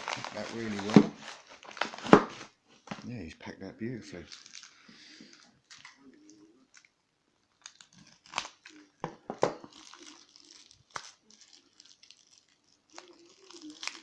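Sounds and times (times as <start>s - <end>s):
wrapping paper crinkling: 0.0s - 3.0s, 4.2s - 6.9s, 7.5s - 9.0s, 9.6s - 14.0s.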